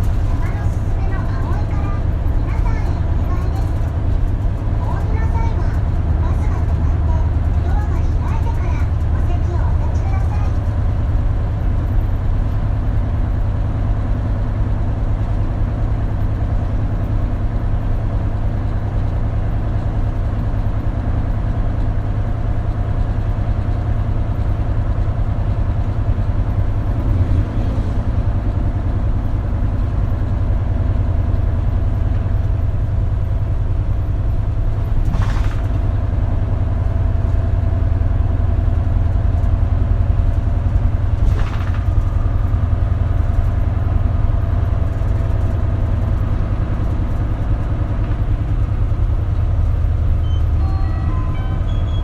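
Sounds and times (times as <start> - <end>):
bus engine rumbling: 0.0 - 52.0.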